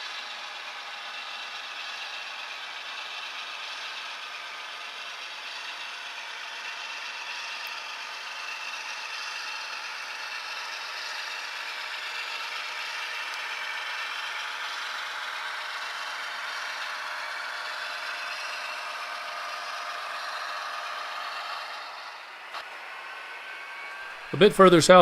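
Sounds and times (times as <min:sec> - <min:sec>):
model train wheels rattling: 0:00.0 - 0:24.9.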